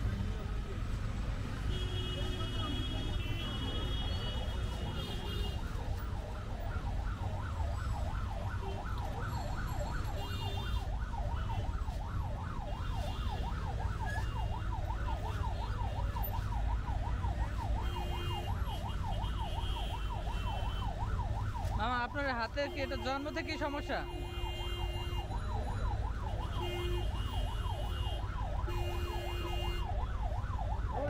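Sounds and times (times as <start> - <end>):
street traffic rumble: 0.0 - 31.0.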